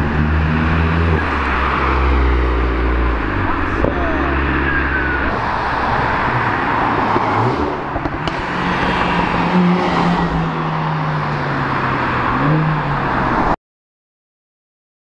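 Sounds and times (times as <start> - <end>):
cars driving past: 0.0 - 13.6
road noise: 0.0 - 13.6.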